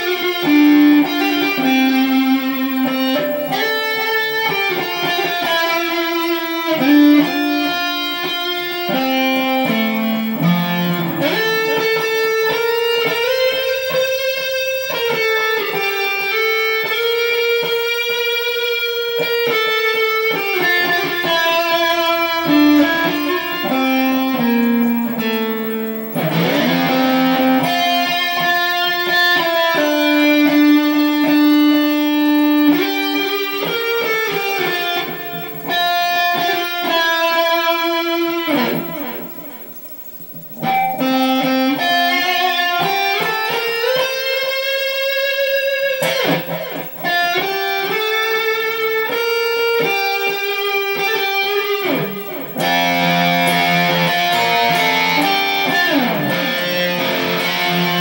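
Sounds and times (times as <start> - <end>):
solo electric guitar melody: 0.0 - 58.0.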